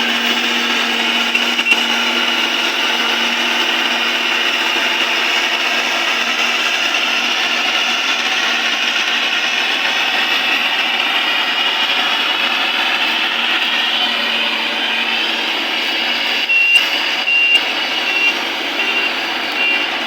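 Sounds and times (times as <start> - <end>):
combine harvester whirr: 0.0 - 20.0.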